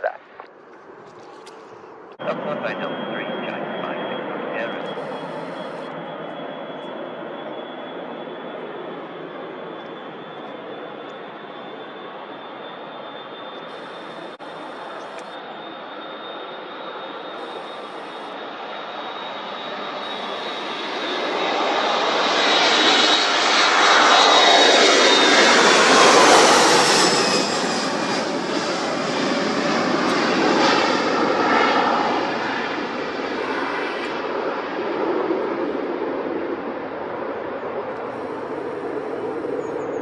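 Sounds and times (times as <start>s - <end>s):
jet airliner taking off: 0.8s - 40.0s.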